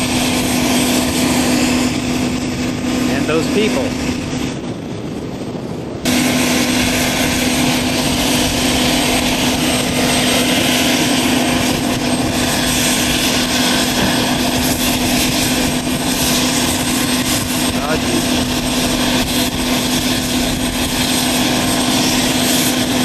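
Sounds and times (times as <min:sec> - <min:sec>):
helicopter turbine engines whining: 0:00.0 - 0:23.0.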